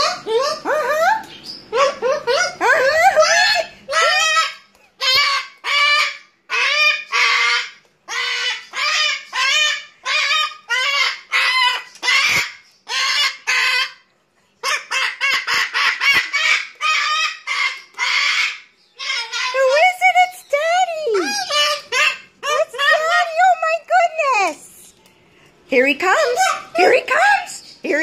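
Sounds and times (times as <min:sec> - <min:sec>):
parrot harsh calls: 0:00.0 - 0:23.6, 0:26.1 - 0:27.8.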